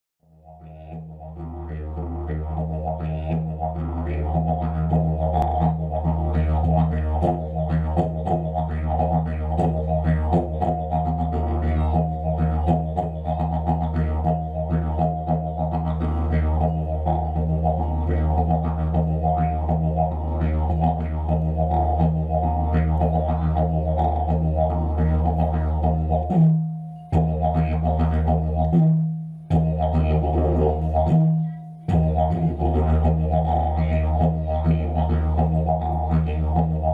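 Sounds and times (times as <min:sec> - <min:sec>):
didgeridoo drone: 0:00.4 - 0:36.9.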